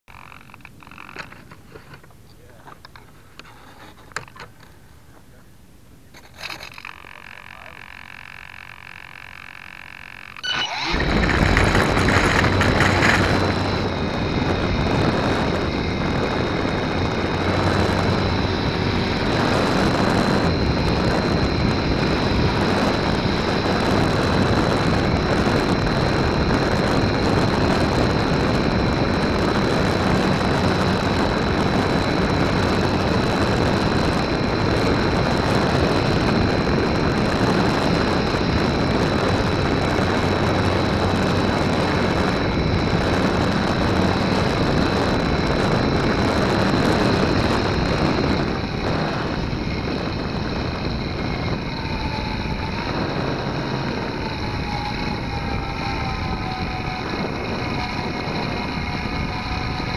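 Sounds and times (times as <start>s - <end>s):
electric motor and propeller: 0.1s - 2.1s, 6.2s - 59.9s
thin high whine: 0.1s - 59.9s
wind rushing over microphone: 10.4s - 59.9s.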